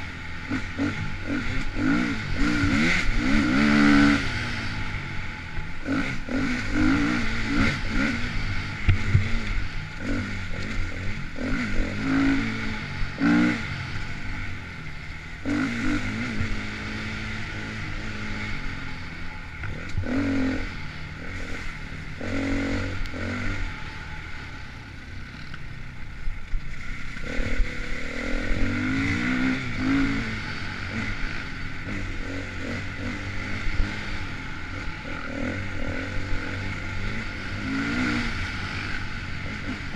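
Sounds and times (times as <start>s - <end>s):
dirt bike engine revving: 0.0s - 25.7s, 26.7s - 39.9s.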